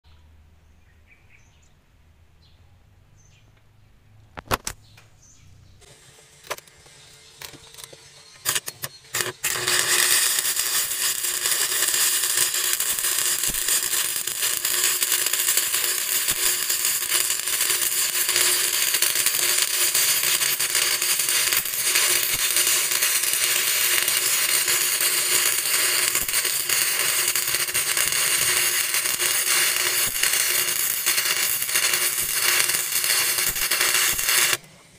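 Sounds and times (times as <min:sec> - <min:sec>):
arc welding crackling sizzle: 0:05.8 - 0:34.9.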